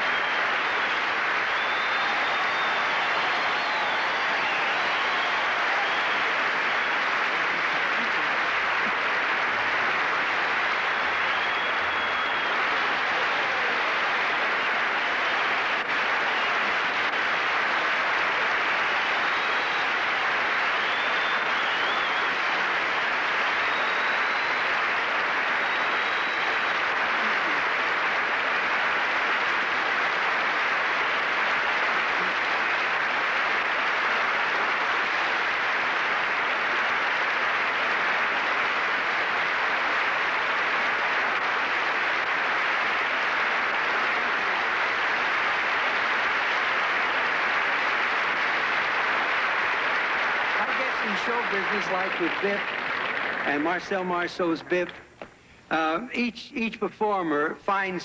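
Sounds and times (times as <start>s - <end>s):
large audience applauding: 0.0s - 55.2s.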